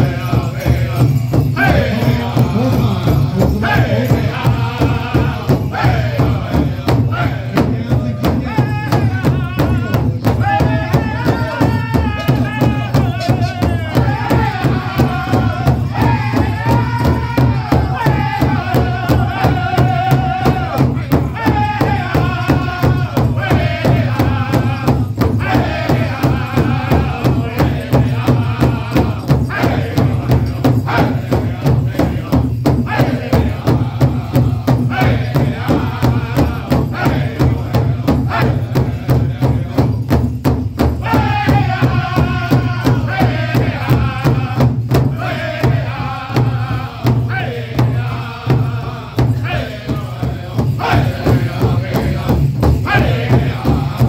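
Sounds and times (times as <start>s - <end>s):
group of singers chanting: 0.0s - 40.2s, 40.8s - 54.0s.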